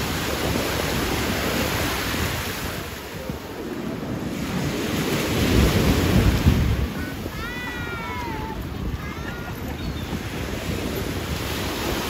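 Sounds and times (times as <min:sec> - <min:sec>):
small waves breaking on sand: 0:00.0 - 0:12.0
wind buffeting microphone: 0:00.0 - 0:12.0.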